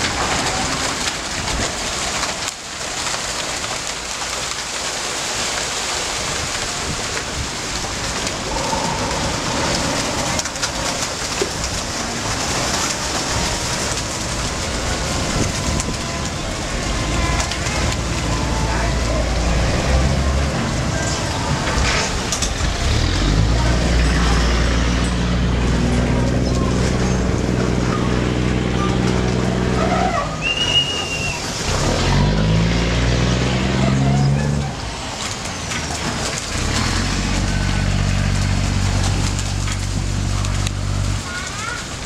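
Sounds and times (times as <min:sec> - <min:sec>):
fish splashing at the surface: 0:00.0 - 0:42.0
low engine rumble: 0:06.4 - 0:42.0.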